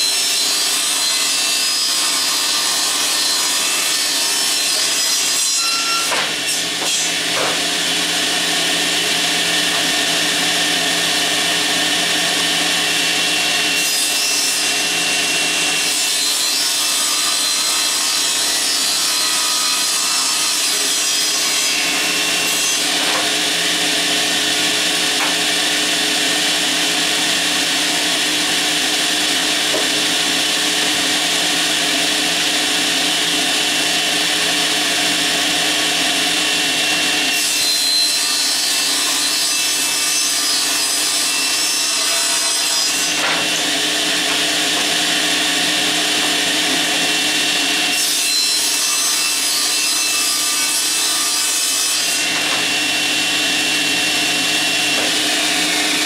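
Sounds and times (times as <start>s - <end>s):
table saw cutting plywood: 0.0s - 56.0s.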